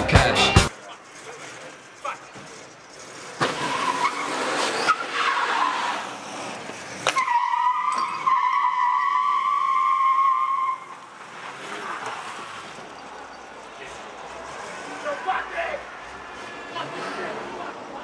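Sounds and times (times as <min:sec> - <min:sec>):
car tyres squealing: 0:00.7 - 0:18.0.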